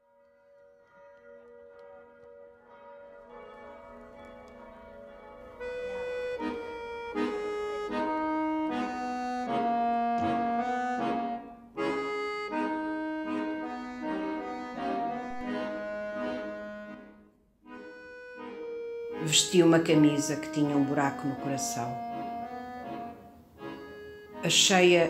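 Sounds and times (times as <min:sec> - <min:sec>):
accordion melody: 0:01.1 - 0:25.0.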